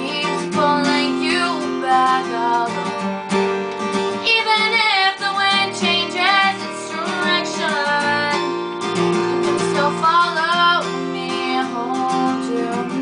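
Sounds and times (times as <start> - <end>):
woman singing: 0.0 - 3.0, 4.2 - 13.0
strummed acoustic guitar: 0.0 - 13.0.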